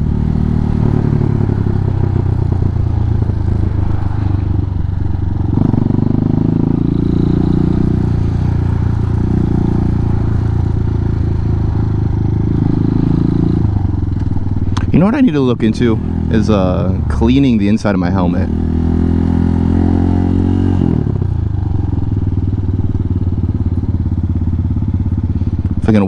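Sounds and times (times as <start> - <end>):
motorcycle engine at low revs: 0.0 - 26.0.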